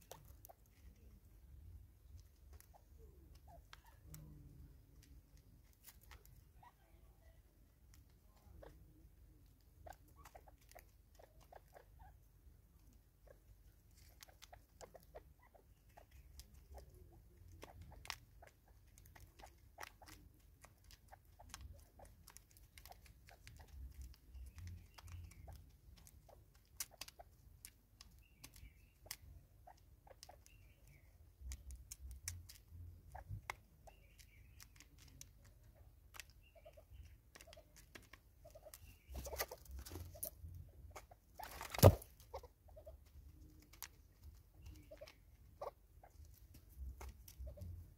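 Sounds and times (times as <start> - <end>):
beaks pecking plastic container: 0.0 - 47.9.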